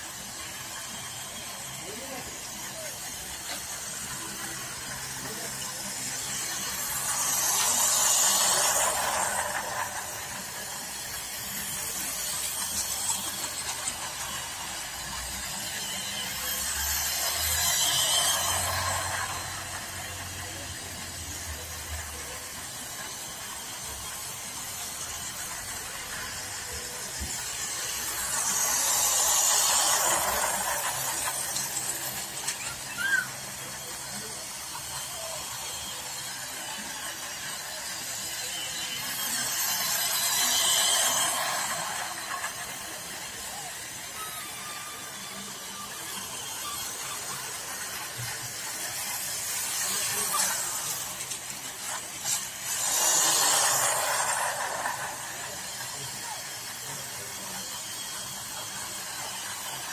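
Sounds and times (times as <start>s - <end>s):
toy trains rattling on track: 0.0s - 59.9s.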